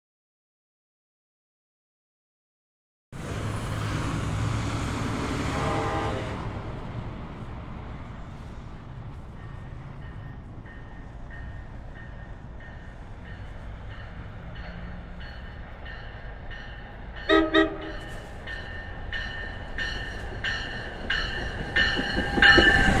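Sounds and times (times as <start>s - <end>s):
train rumbling through station: 3.2s - 23.0s.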